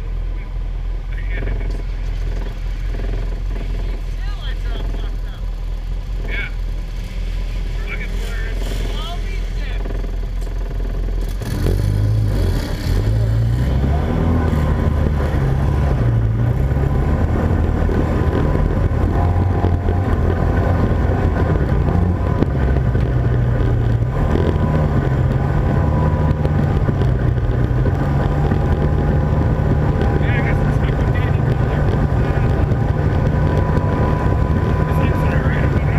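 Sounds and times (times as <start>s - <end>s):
off-road vehicle engine revving: 0.0s - 35.9s.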